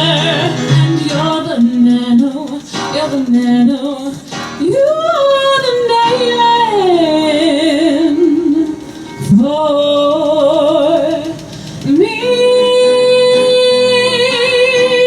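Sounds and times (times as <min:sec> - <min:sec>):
musical accompaniment: 0:00.0 - 0:15.0
woman singing with vibrato: 0:00.0 - 0:15.0.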